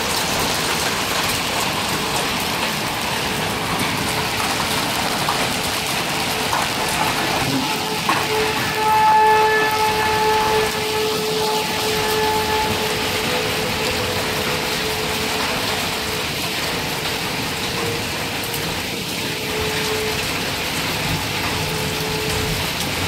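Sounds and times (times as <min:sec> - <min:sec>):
heavy rain and hail: 0:00.0 - 0:23.0.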